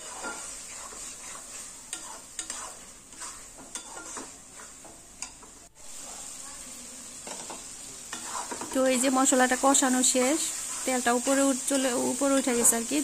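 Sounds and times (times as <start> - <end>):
spice paste sizzling in oil: 0.0 - 13.0.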